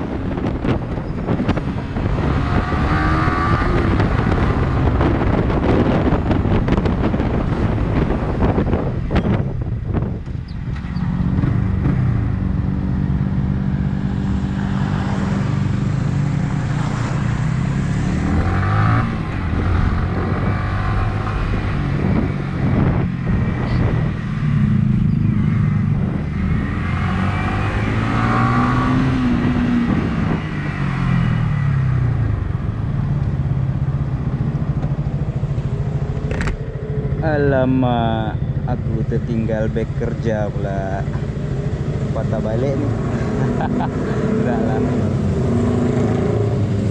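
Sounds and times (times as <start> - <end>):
wind noise on microphone: 0.0 - 41.0
motorcycle engine accelerating: 0.0 - 46.9.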